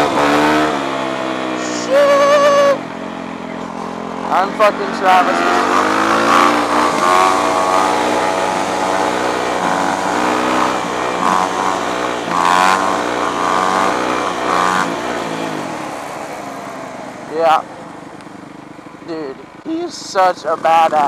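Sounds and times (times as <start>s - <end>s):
dirt bike engine accelerating: 0.0s - 19.7s.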